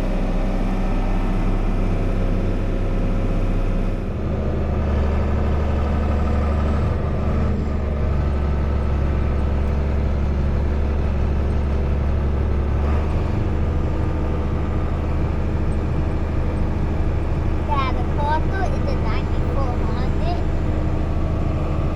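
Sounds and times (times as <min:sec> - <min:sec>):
heavy engine humming: 0:00.0 - 0:21.9.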